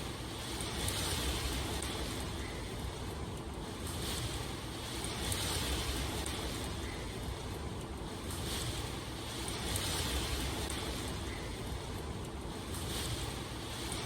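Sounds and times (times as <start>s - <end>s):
rain drops ticking: 0.0s - 14.0s
steady rain hiss: 0.0s - 14.0s.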